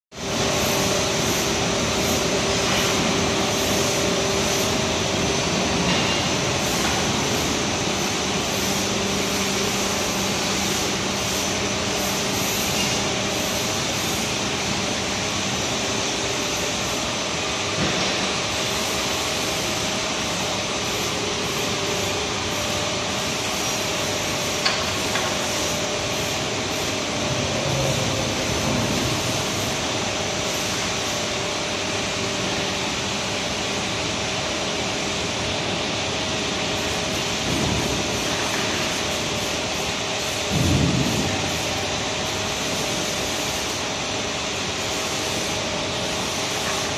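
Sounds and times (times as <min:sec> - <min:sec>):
machine running: 0:00.2 - 0:46.9.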